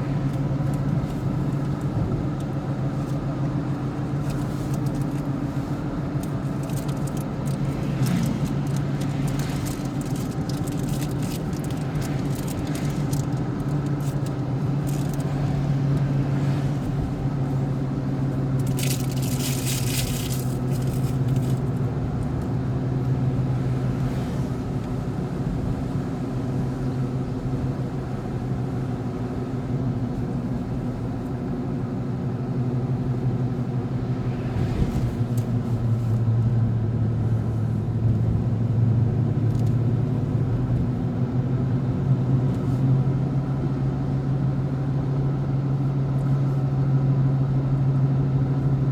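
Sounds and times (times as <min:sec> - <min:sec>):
road noise on wet road: 0:00.0 - 0:48.9
vehicle engine drone: 0:00.0 - 0:48.9.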